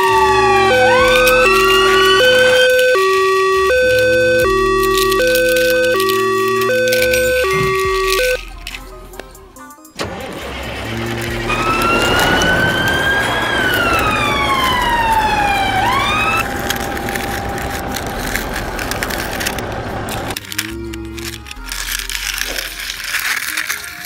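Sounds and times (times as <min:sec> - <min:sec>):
whining tone: 0:00.0 - 0:09.4, 0:10.0 - 0:22.9.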